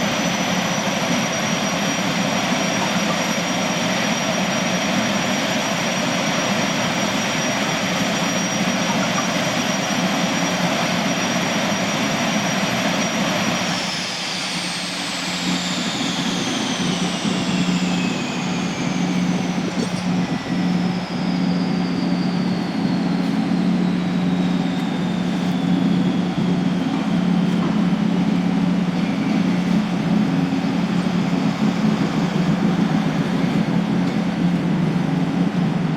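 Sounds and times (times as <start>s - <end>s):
gas turbine whine: 0.0s - 35.9s.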